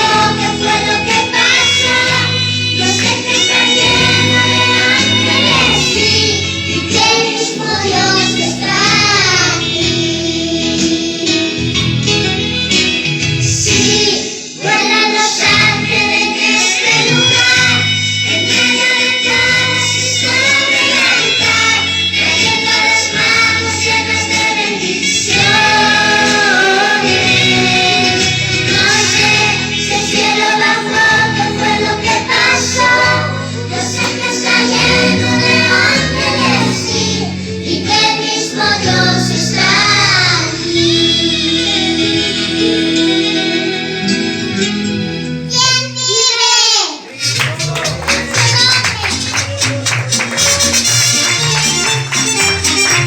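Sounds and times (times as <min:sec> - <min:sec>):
voices singing: 0:00.0 - 0:11.7, 0:13.7 - 0:44.8
instrumental backing: 0:00.0 - 0:46.5, 0:47.1 - 0:53.0.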